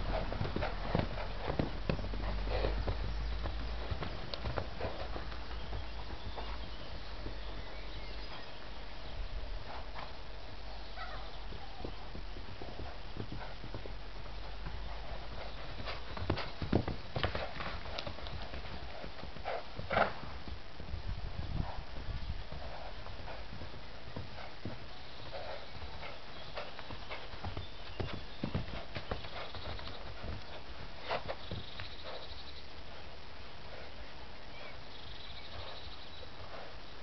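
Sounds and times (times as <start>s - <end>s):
horse hooves knocking on ground: 0.0s - 9.5s, 10.4s - 32.4s
low rumble of wind: 0.0s - 37.0s.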